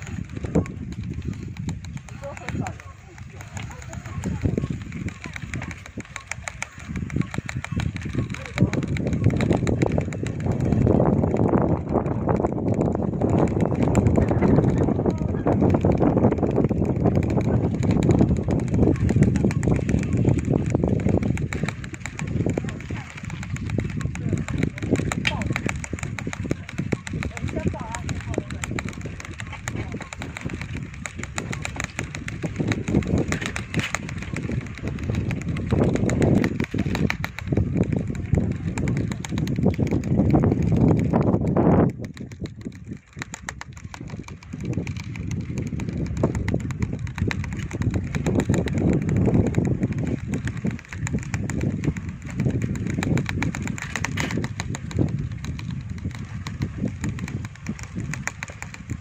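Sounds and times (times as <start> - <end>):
bicycle clicking and rattling: 0.0 - 59.0
wind rumble on microphone: 0.0 - 59.0.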